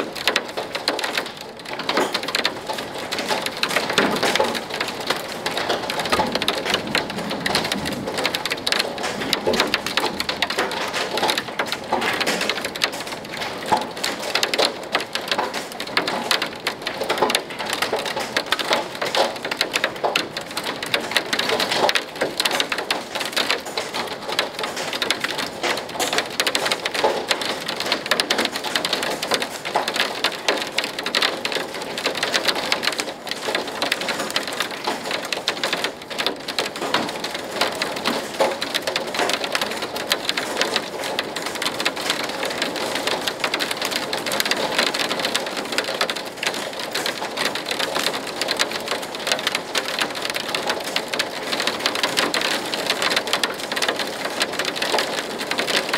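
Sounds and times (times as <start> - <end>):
hail and rain pelting: 0.0 - 55.9.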